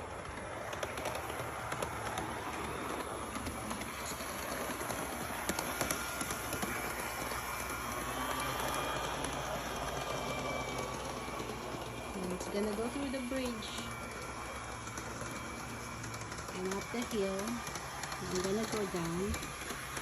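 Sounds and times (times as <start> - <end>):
light clicks of train: 0.0 - 20.0
model train motor whirring: 0.0 - 20.0.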